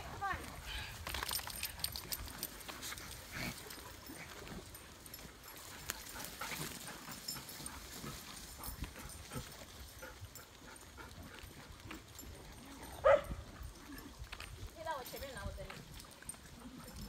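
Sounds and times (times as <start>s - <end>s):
paws and footsteps on wet pavement: 0.0s - 17.0s.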